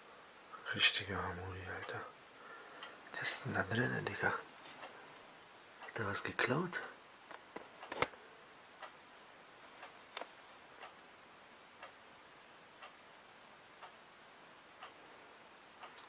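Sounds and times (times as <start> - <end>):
clock ticking faintly: 1.6 - 7.9, 8.7 - 16.0.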